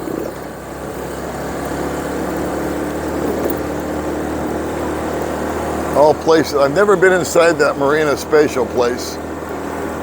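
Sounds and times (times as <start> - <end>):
motorbike engine running: 0.0 - 10.0
road and wind noise: 0.0 - 10.0.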